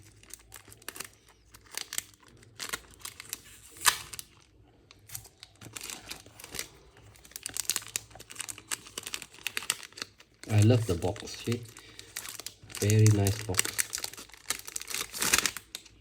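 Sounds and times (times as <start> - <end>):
packaging crinkling and crackling: 0.0 - 16.0.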